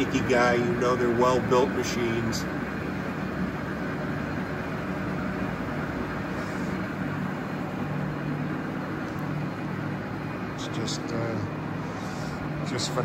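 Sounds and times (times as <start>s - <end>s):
machinery humming: 0.0s - 13.0s.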